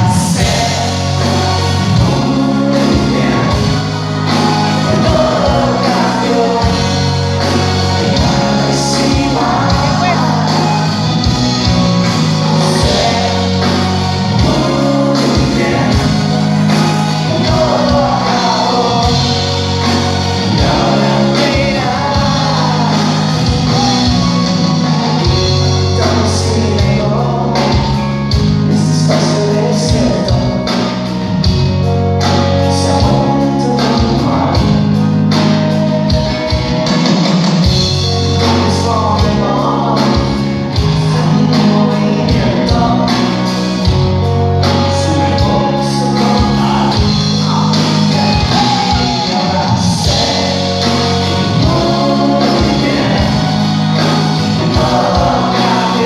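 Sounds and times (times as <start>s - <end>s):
bass: 0.0s - 56.0s
lead vocal: 0.0s - 56.0s
steady drum beat: 0.0s - 56.0s.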